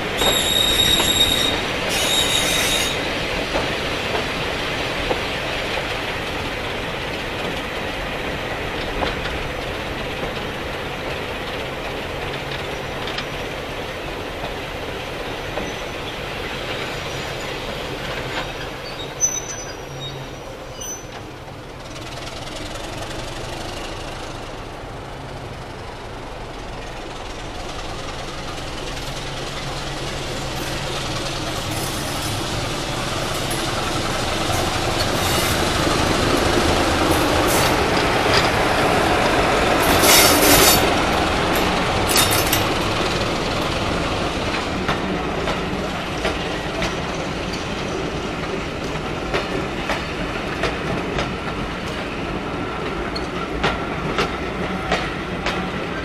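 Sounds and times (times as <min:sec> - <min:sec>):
diesel locomotive engine: 0:00.0 - 0:56.0
wheels clicking over rail joints: 0:00.1 - 0:24.7, 0:26.7 - 0:56.0.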